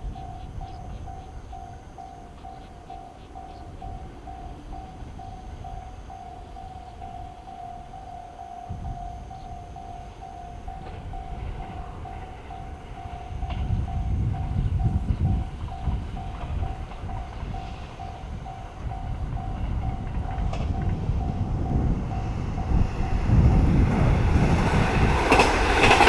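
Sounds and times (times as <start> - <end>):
level crossing warning bell: 0.0 - 26.0
train rumble: 0.0 - 26.0.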